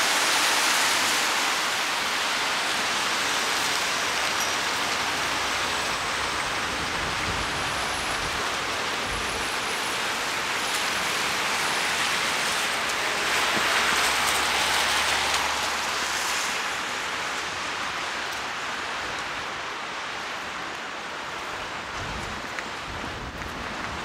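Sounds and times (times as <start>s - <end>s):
heavy rain hissing on street: 0.0s - 24.0s
vehicle passing on wet road: 0.0s - 24.0s.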